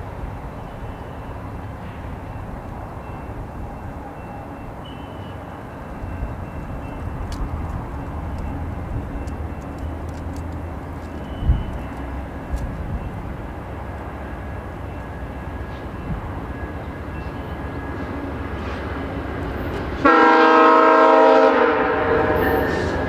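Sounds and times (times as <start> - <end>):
train engine and wheels rumbling: 0.0 - 23.0.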